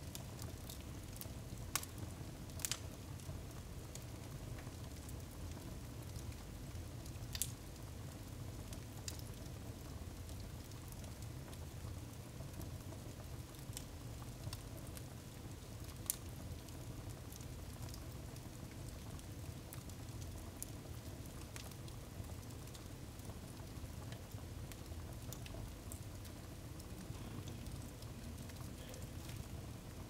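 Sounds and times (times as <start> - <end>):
fire flames rumbling: 0.0 - 30.0
firewood crackling and popping: 0.0 - 30.0.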